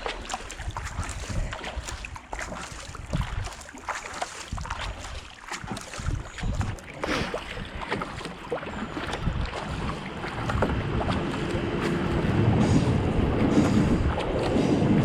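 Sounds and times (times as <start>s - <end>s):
wind on microphone: 0.0s - 3.7s, 4.4s - 15.0s
kayak paddle splashing: 0.0s - 15.0s.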